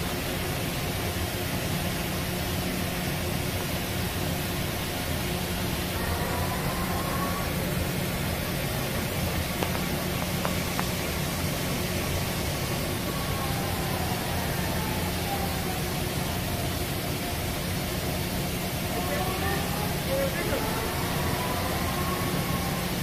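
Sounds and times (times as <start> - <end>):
machine hum with faint whine: 0.0 - 23.0.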